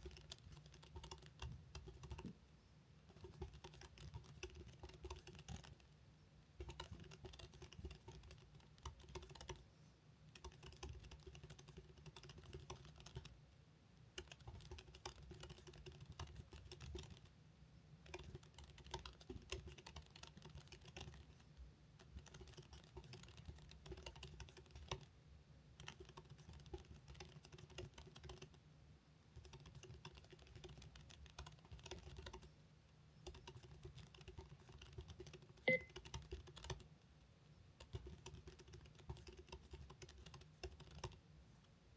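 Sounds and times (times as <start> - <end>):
fast typing on keyboard: 0.0 - 2.4, 3.1 - 6.0, 6.6 - 9.6, 10.3 - 13.4, 14.2 - 17.3, 18.0 - 21.4, 22.0 - 25.1, 25.8 - 28.6, 29.4 - 32.5, 33.2 - 36.9, 37.8 - 41.2.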